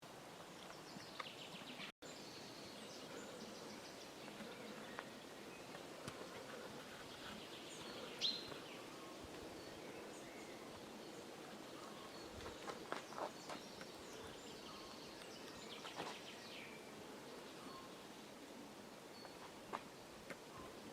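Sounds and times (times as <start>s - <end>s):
birds chirping: 0.1s - 20.9s.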